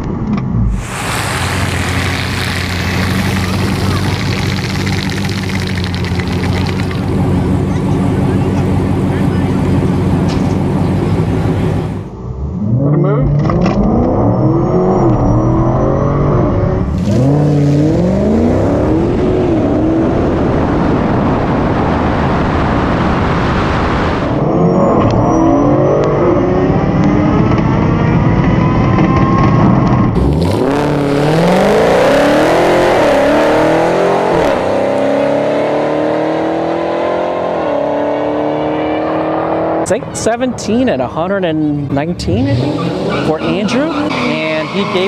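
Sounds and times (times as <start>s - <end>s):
road and tyre noise: 0.0s - 45.0s
car engine revving: 0.5s - 45.0s.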